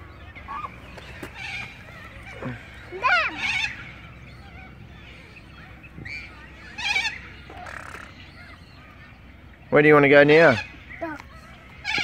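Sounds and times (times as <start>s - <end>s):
waterbirds calling: 0.0s - 12.0s.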